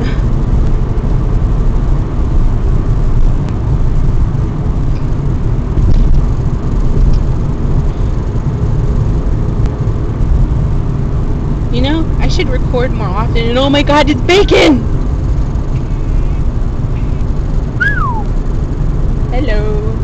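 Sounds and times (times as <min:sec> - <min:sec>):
car driving interior rumble: 0:00.0 - 0:20.0.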